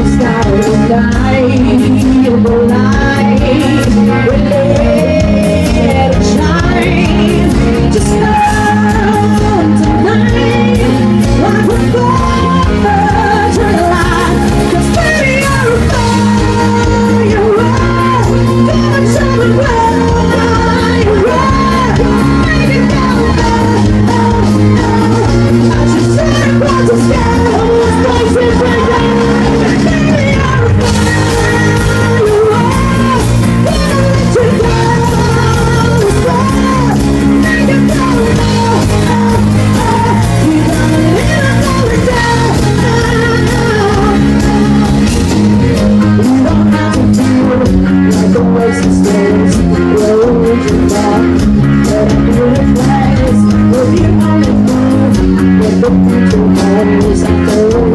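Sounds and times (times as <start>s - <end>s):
pop song with singing: 0.0s - 57.9s.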